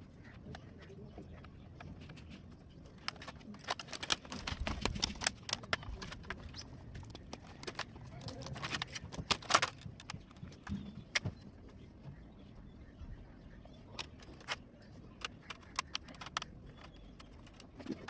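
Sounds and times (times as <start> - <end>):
laptop parts clicking and rattling: 0.3 - 11.7, 13.8 - 18.0.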